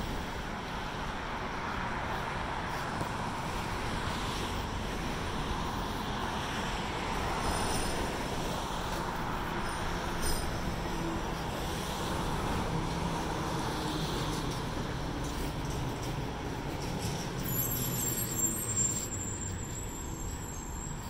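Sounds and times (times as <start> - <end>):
cars passing: 0.0 - 21.0
road traffic: 0.0 - 21.0.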